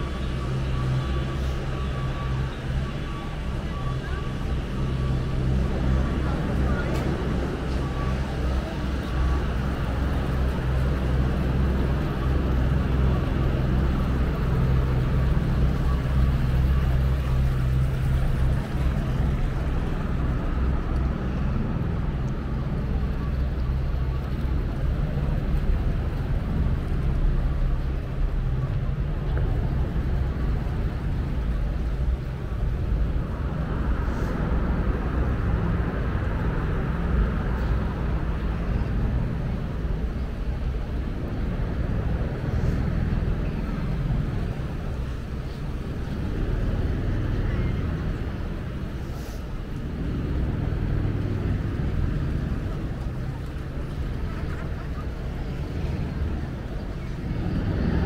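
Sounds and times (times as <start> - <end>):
city background rumble: 0.0 - 58.0.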